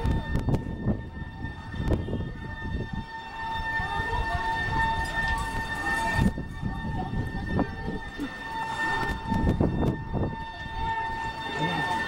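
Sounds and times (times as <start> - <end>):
steady emergency siren: 0.0 - 12.0
street noise: 0.0 - 12.0.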